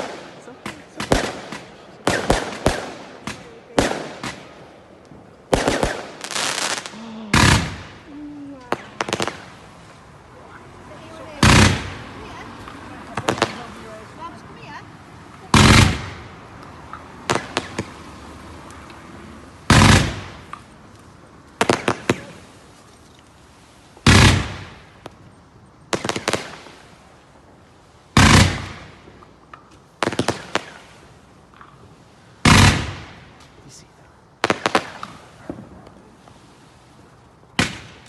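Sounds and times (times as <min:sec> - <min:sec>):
firework bangs: 0:00.0 - 0:18.5, 0:19.5 - 0:20.8, 0:21.6 - 0:22.8, 0:23.9 - 0:25.3, 0:25.9 - 0:27.3, 0:28.1 - 0:33.8, 0:34.4 - 0:38.0
firework crackling: 0:00.0 - 0:38.0.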